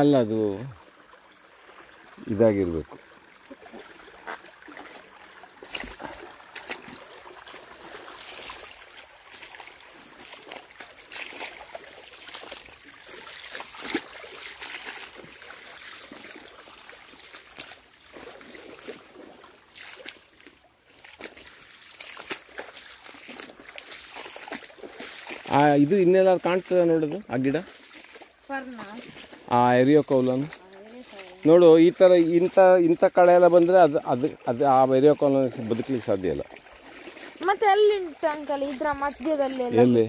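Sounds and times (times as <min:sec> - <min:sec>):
stream trickling over rocks: 0:00.0 - 0:40.0
footsteps in wet leaves: 0:03.5 - 0:40.0.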